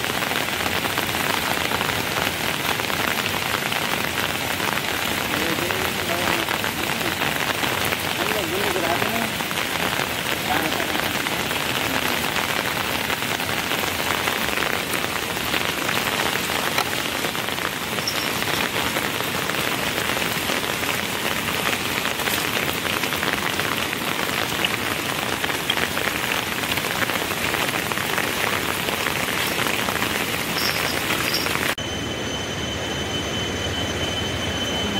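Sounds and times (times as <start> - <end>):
steady rain falling: 0.0 - 31.8.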